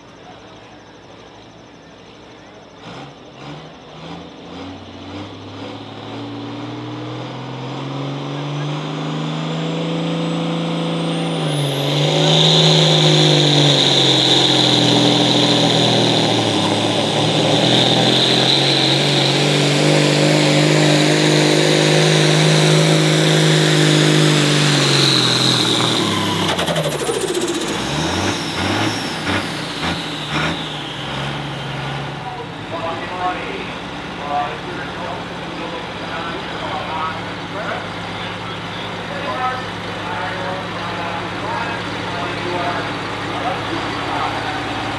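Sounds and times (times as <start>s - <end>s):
tractor engine running flat out: 0.0s - 44.9s.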